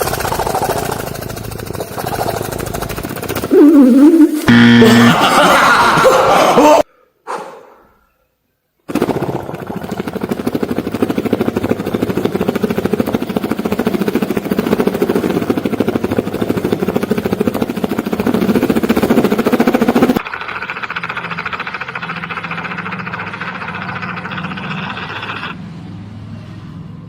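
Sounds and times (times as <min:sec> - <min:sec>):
beatboxed helicopter imitation: 0:00.0 - 0:06.0, 0:08.9 - 0:25.6.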